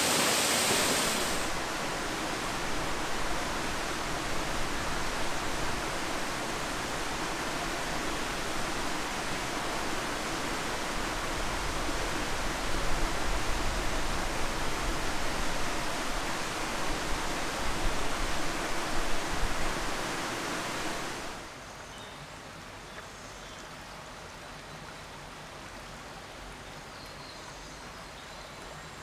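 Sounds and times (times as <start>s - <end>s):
stream and waterfall rushing: 0.0s - 29.0s.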